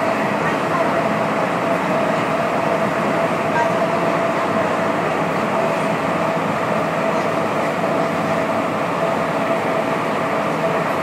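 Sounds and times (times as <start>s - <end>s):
constant train whine: 0.0s - 11.0s
metro train wheels rumbling: 0.0s - 11.0s.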